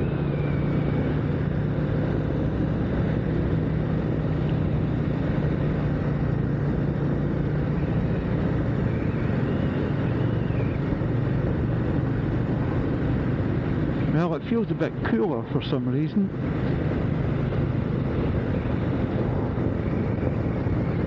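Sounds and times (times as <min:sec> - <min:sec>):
motorcycle engine cruising: 0:00.0 - 0:21.0
wind noise on microphone: 0:00.0 - 0:21.0.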